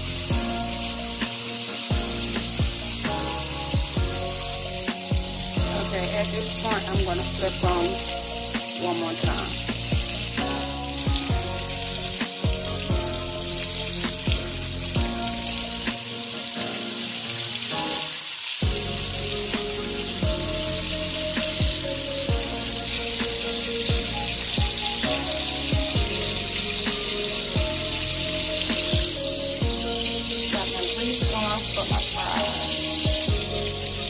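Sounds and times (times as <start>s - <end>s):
music with deep bass beat: 0.0s - 16.9s, 18.6s - 34.0s
burger patties sizzling in oil: 0.0s - 34.0s.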